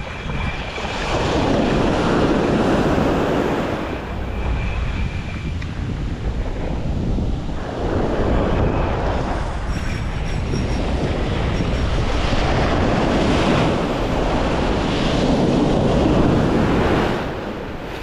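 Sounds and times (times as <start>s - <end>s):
ocean waves breaking: 0.0s - 18.0s
wind buffeting microphone: 0.0s - 18.0s.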